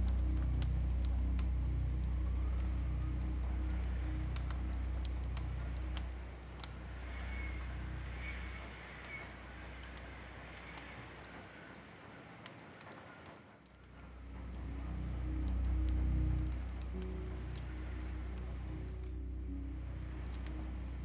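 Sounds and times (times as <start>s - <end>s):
low music drone: 0.0s - 11.4s, 13.8s - 21.0s
fire crackling and popping: 0.0s - 21.0s.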